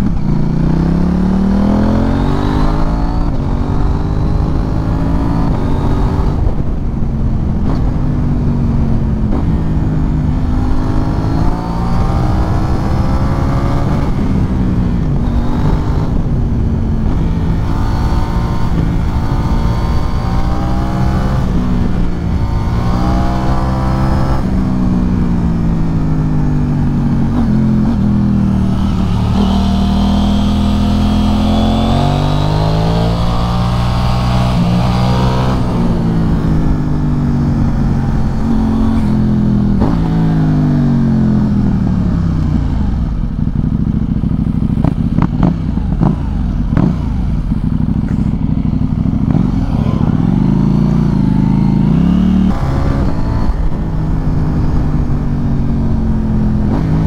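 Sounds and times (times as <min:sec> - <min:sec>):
motorcycle engine revving: 0:00.0 - 0:57.0
wind rushing over microphone: 0:00.0 - 0:57.0.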